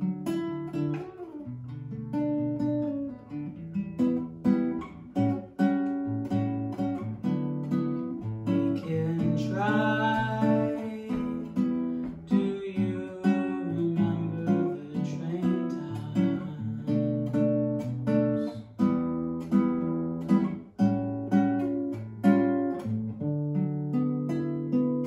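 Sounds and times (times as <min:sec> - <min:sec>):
fingerpicked classical guitar: 0:00.0 - 0:25.0.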